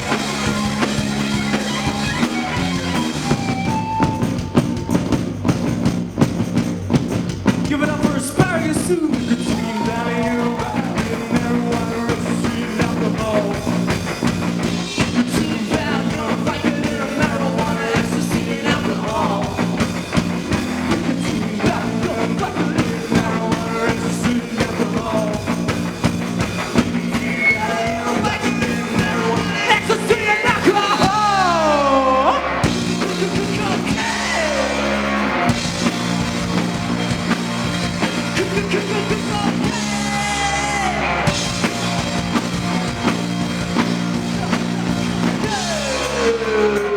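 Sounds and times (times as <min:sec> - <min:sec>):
live rock band playing: 0:00.0 - 0:46.9
lead vocal singing: 0:07.6 - 0:37.3, 0:37.9 - 0:46.9.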